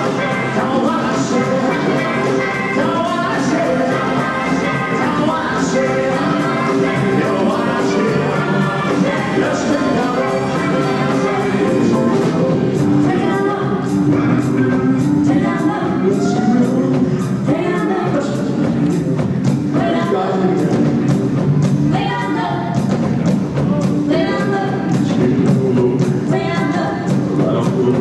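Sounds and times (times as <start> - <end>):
person singing: 0.0 - 21.2, 23.6 - 28.0
live rock and roll band: 0.0 - 28.0.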